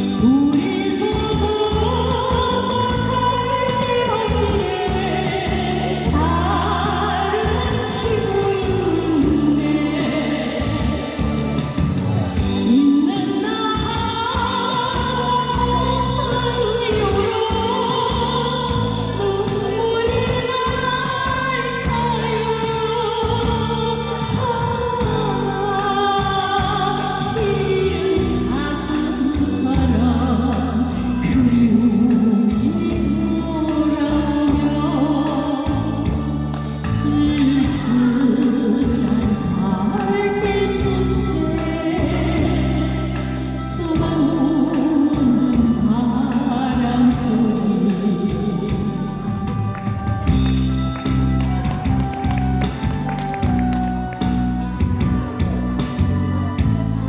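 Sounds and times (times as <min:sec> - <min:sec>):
instrumental accompaniment: 0:00.0 - 0:57.0
woman singing: 0:00.0 - 0:57.0.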